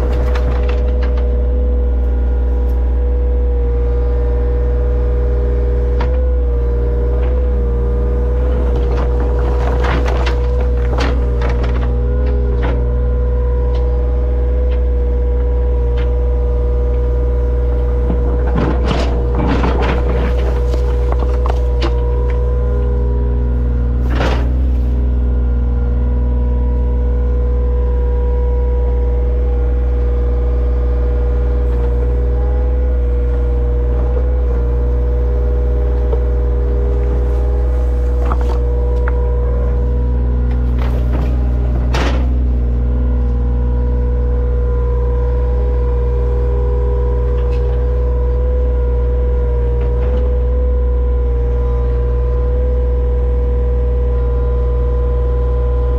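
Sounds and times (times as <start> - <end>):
large engine running: 0.0 - 55.9.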